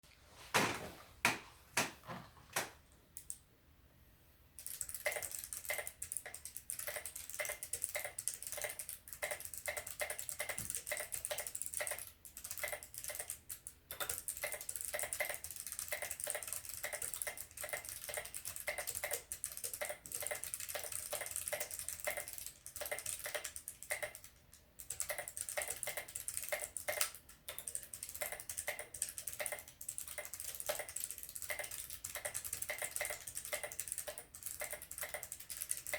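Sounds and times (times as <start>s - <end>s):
mechanical keyboard typing: 4.6s - 35.9s.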